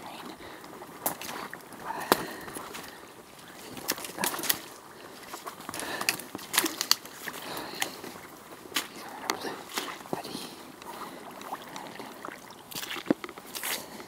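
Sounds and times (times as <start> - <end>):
boots splashing through water: 0.7 - 14.0.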